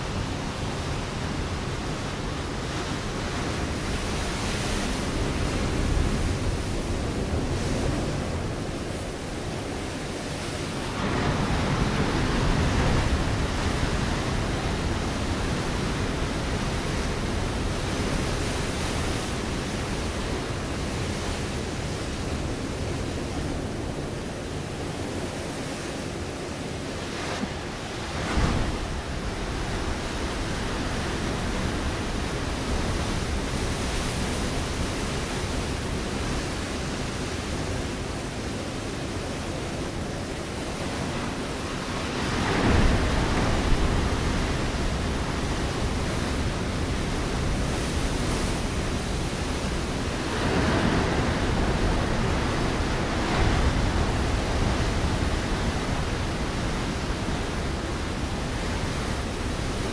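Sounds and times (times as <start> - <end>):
ocean waves breaking on rocks: 0.0 - 59.9.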